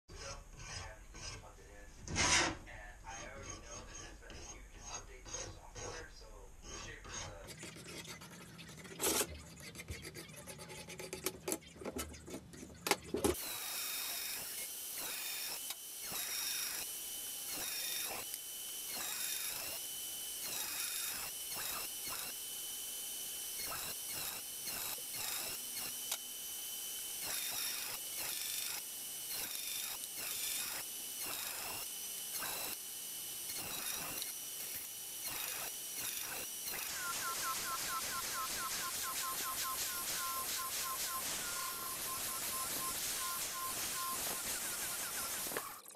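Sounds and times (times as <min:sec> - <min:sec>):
band saw cutting steel: 0:00.1 - 0:08.4, 0:13.3 - 0:45.9.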